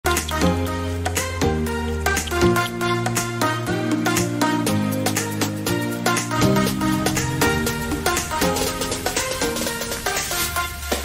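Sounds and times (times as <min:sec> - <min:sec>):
music with bass and percussion: 0:00.0 - 0:11.0.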